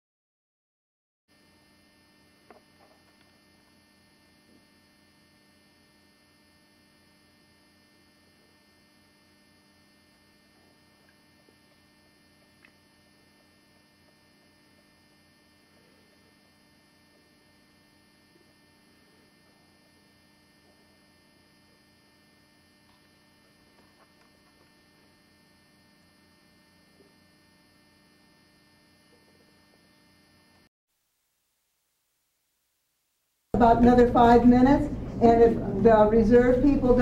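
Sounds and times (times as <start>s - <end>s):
faint electrical hum: 1.4s - 37.0s.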